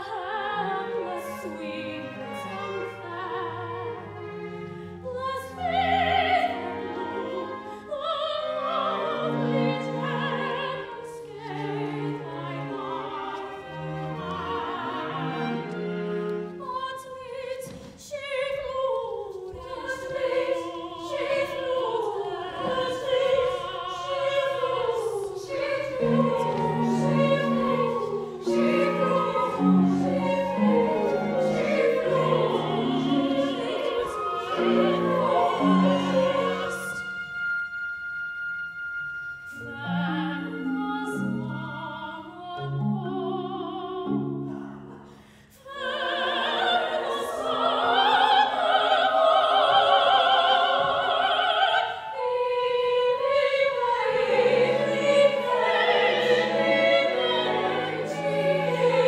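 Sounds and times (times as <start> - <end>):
woman singing opera: 0.0 - 37.6, 39.4 - 59.0
small ensemble with fiddle: 0.0 - 59.0.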